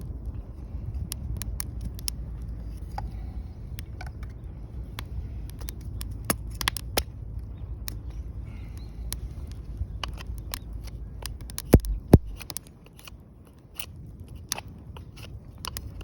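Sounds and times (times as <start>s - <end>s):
wood fire crackling and popping: 0.0s - 2.5s, 4.8s - 16.0s
fire low rumble: 0.0s - 16.0s.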